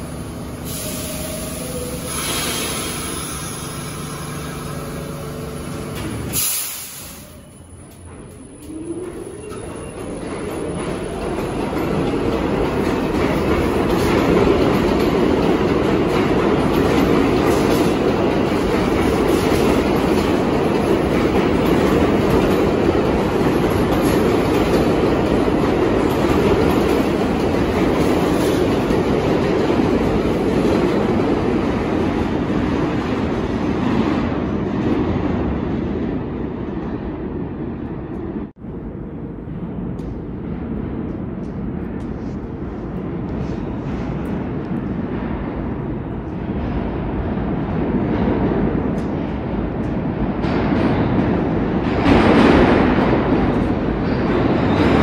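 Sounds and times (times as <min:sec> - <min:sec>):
subway train wheels on rails: 0:00.0 - 0:55.0.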